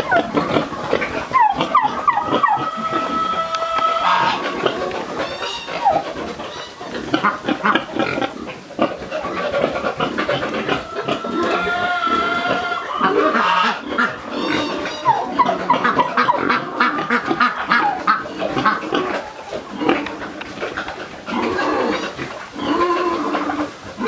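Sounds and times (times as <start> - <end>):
pigs calling: 0.0 - 24.0
poultry calling: 0.0 - 24.0.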